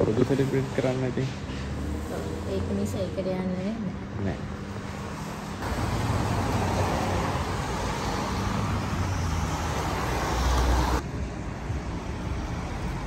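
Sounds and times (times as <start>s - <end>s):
car road noise: 0.0s - 13.0s.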